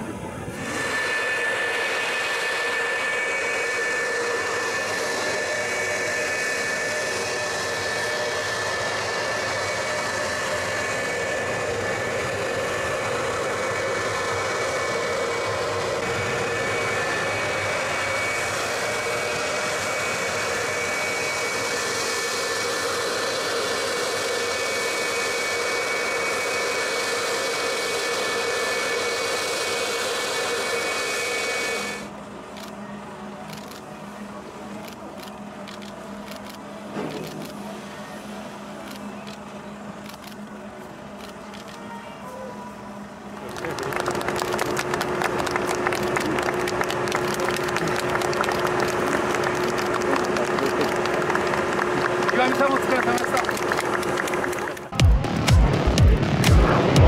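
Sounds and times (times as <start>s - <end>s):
fighter jet engine running: 0.0s - 57.0s.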